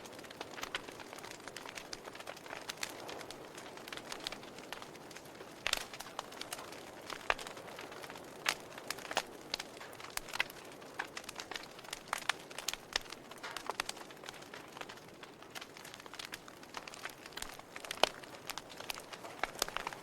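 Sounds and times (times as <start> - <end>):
soft steady hiss: 0.0 - 20.0
wood fire crackling: 0.0 - 20.0.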